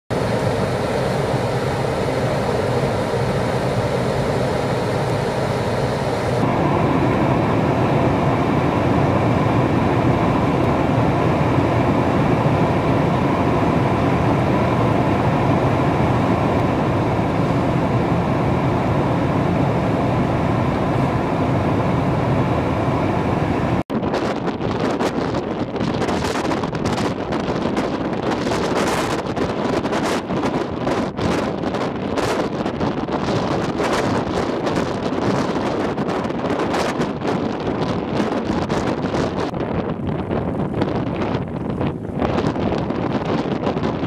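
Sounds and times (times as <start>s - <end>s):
blizzard wind buffeting microphone: 0.1s - 44.0s.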